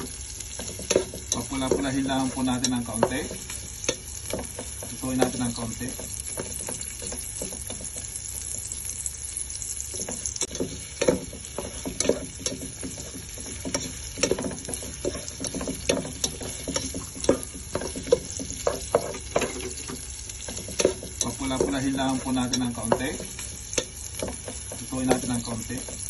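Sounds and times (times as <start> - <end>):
spatula scraping and tapping pan: 0.0 - 8.9, 9.8 - 26.0
onions sizzling in hot oil: 0.0 - 26.0.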